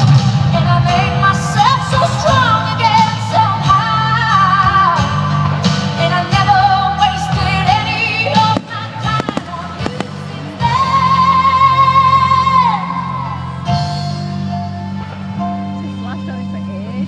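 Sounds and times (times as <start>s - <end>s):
pop ballad with singing: 0.0s - 15.8s.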